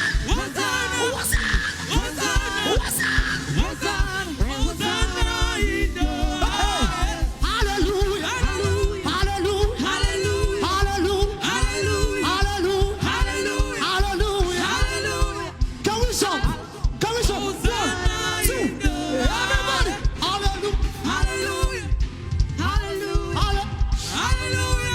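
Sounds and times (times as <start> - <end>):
band with fast drum beat: 0.0 - 24.9
people singing: 0.0 - 24.9.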